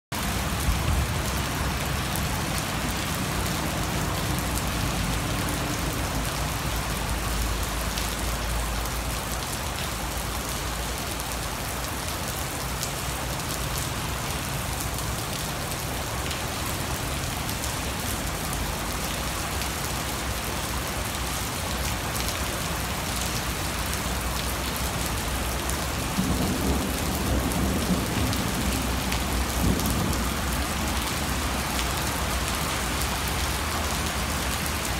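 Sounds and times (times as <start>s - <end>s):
heavy rain on wet paving: 0.1s - 34.9s.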